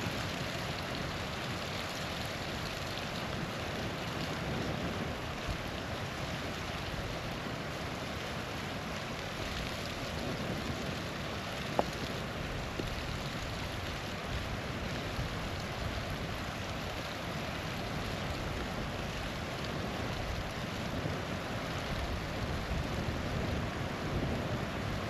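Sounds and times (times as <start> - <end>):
small waterfall rushing: 0.0 - 25.0.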